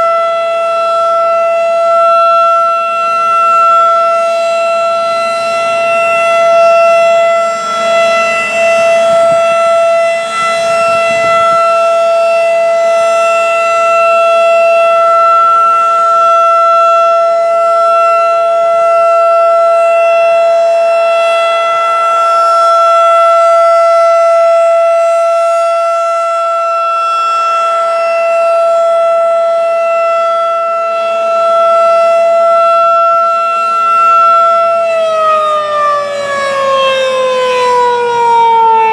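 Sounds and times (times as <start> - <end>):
rotating tornado siren wailing: 0.0 - 38.9.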